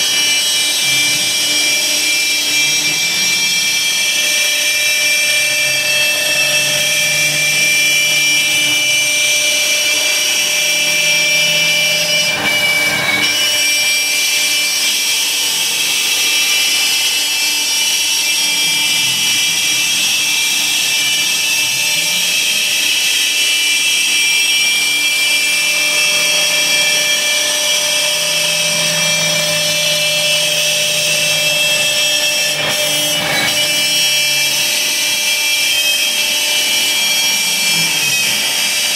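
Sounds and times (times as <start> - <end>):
router spindle high whine: 0.0 - 38.9
wood cutting noise: 0.0 - 38.9.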